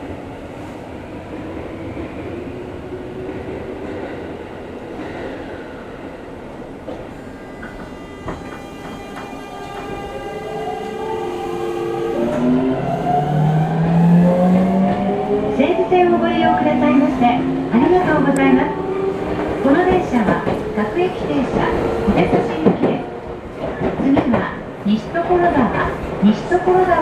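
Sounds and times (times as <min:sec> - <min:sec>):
train hum: 0:00.0 - 0:27.0.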